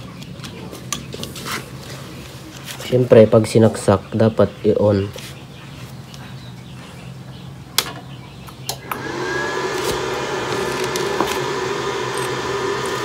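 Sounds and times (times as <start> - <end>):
cooling fan whirring: 0.0 - 13.0.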